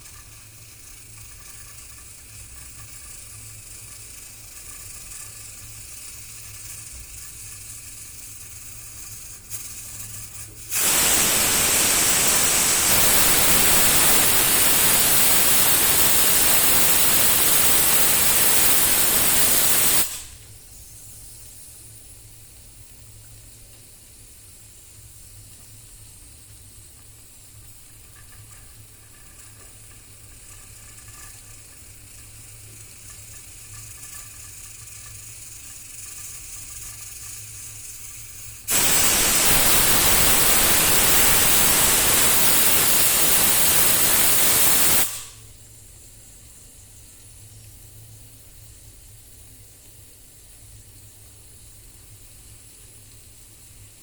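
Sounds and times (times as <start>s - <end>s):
pressure cooker venting steam: 0.0s - 54.0s.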